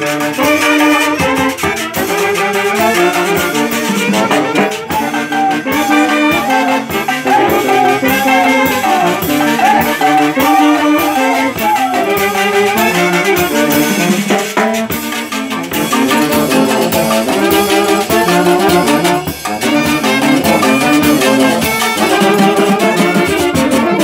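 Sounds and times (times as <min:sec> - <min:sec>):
drums and cymbal beat: 0:00.0 - 0:24.0
saxophones playing melody: 0:00.0 - 0:24.0.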